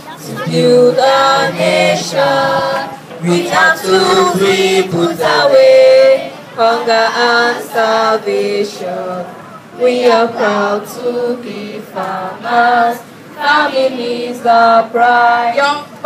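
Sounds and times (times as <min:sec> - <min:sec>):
children singing in chorus: 0:00.1 - 0:15.6.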